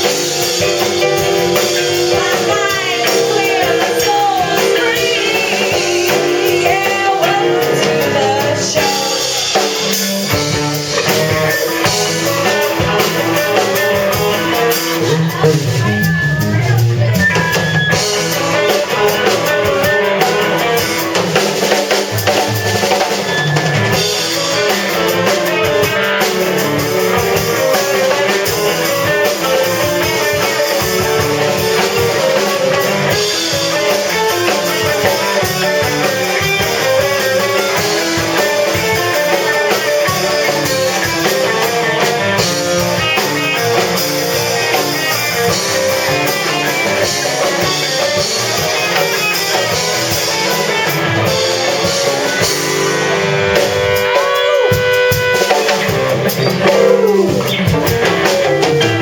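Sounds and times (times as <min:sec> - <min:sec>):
band music with drums and guitar: 0:00.0 - 0:59.0.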